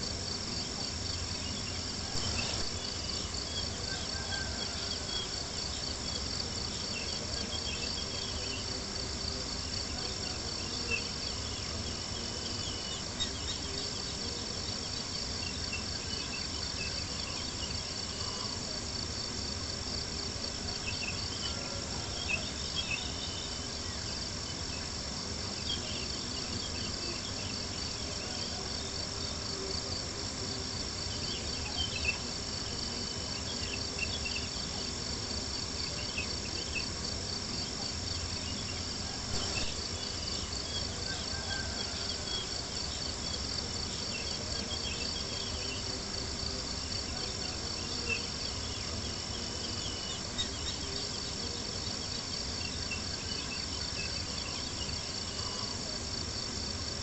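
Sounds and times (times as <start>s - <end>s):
crickets chirping: 0.0s - 57.0s
low background hiss: 0.0s - 57.0s.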